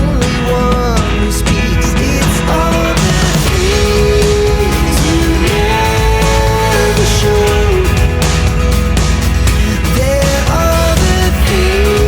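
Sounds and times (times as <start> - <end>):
guitar-led song with beat: 0.0 - 12.0.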